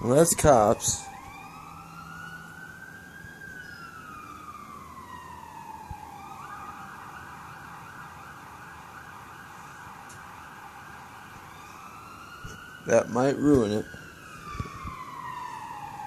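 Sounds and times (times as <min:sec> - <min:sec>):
police siren wailing and yelping: 0:00.0 - 0:16.0.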